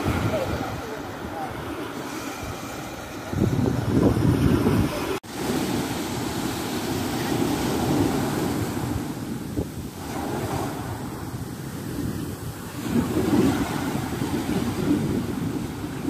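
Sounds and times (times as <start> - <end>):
small waves washing on shore: 0.0 - 16.0
wind buffeting microphone: 0.0 - 16.0.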